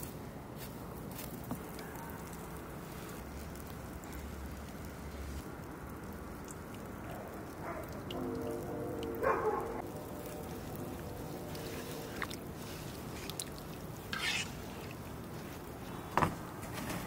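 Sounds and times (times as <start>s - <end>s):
wooden spoon stirring thick soup: 0.7s - 16.6s.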